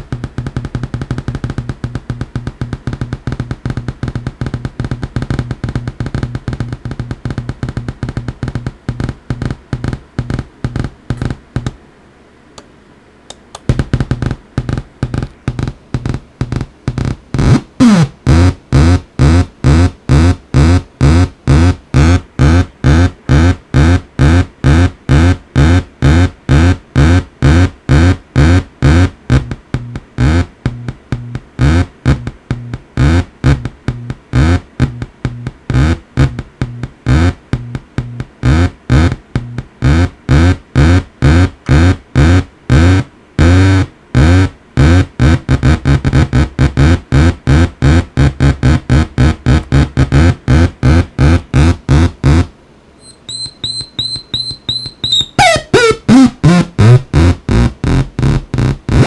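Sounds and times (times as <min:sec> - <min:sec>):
buzzy pulsing tone generator: 0:00.0 - 0:11.8, 0:13.7 - 0:59.0.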